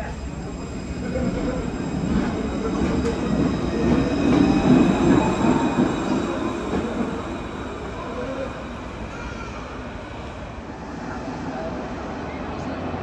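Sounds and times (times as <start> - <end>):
tram rumbling on rails: 0.0 - 13.0.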